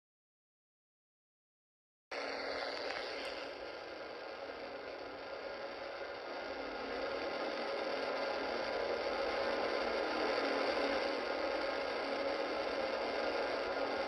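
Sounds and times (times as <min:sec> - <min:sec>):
faint steady tones: 0:02.1 - 0:14.0
radio static hiss: 0:02.1 - 0:14.0.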